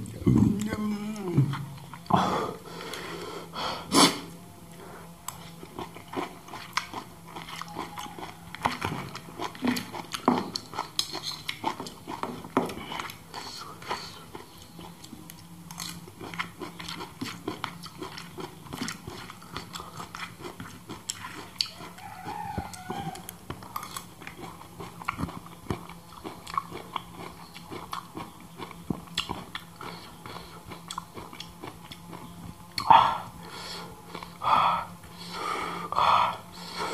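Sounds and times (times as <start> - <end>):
person chewing: 0.0 - 36.7.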